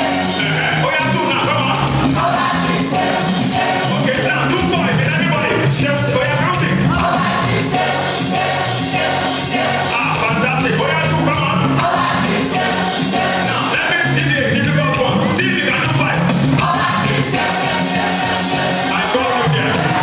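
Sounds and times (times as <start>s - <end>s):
backing voices singing: 0.0s - 20.0s
band with drums and percussion: 0.0s - 20.0s.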